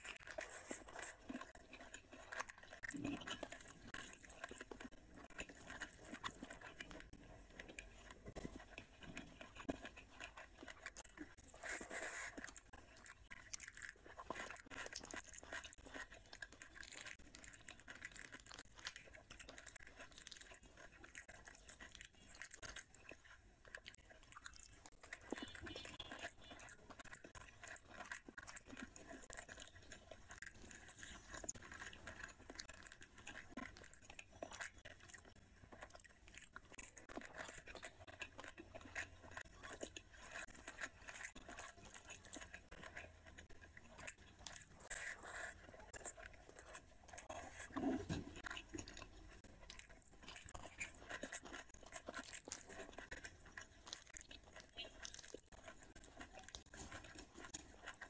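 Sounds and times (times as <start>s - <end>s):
fingers mixing rice on a plate: 0.0s - 58.0s
wet chewing clicks: 0.0s - 58.0s.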